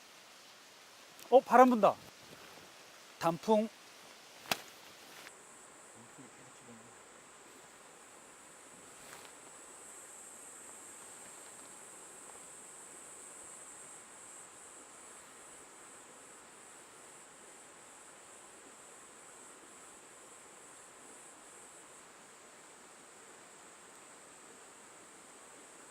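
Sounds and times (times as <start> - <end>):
insects chirring: 0.0 - 25.9
wind rustling leaves: 0.0 - 25.9.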